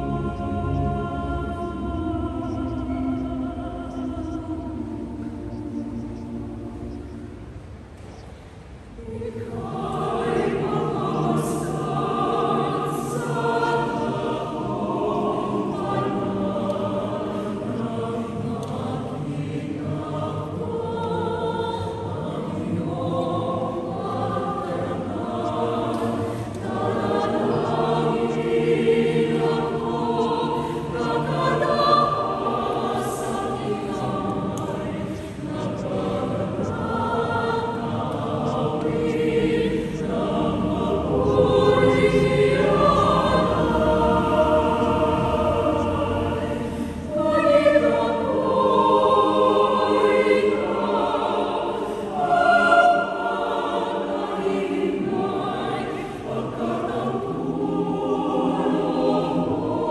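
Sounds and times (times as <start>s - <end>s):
choir singing long notes: 0.0s - 59.9s.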